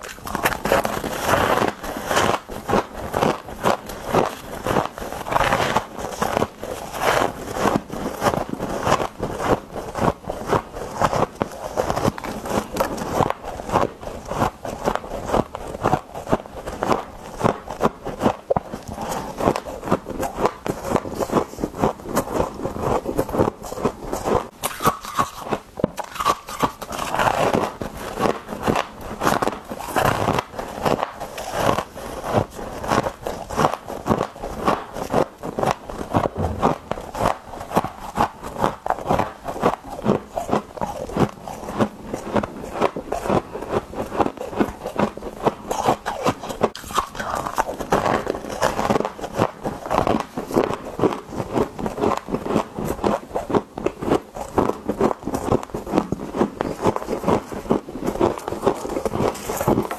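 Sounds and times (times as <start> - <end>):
person chewing crunchy frost: 0.0 - 59.9.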